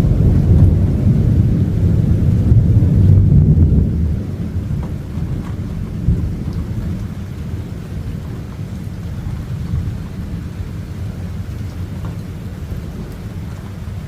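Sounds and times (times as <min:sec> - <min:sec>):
light rain falling: 0:00.0 - 0:14.0
thunder rumbling: 0:00.0 - 0:14.0.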